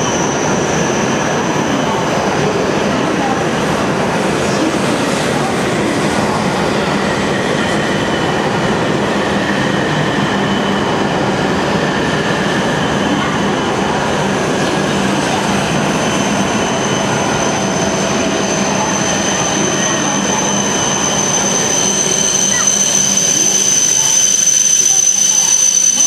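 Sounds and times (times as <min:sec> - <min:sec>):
train running noise: 0:00.0 - 0:26.0.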